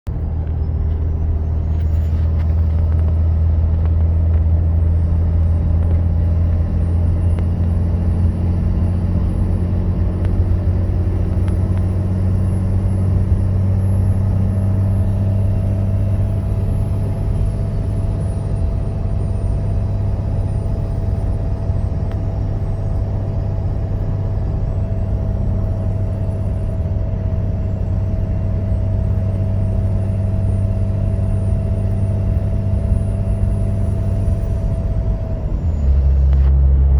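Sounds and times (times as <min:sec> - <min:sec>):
car engine low drone: 0:00.0 - 0:36.9
steady higher engine tone: 0:00.0 - 0:36.9.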